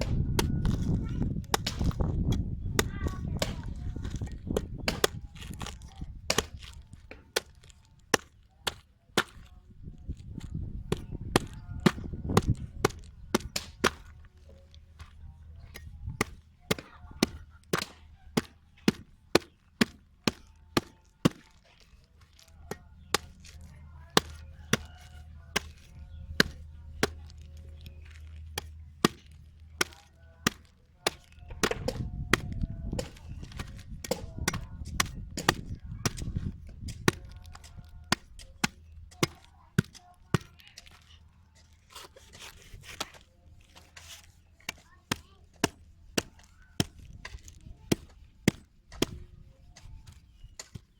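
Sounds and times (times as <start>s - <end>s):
blade chopping: 0.0s - 9.5s, 10.1s - 50.9s.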